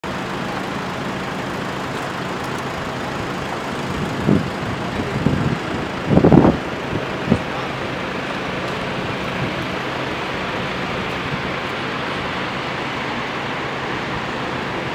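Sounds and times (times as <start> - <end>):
city street traffic: 0.0 - 14.9.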